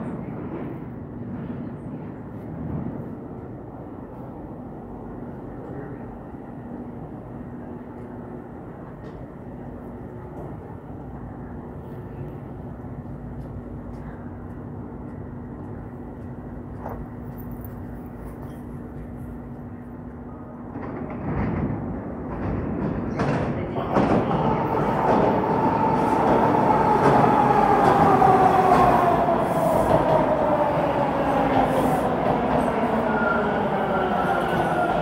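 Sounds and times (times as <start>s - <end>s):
train approaching: 0.0s - 35.0s.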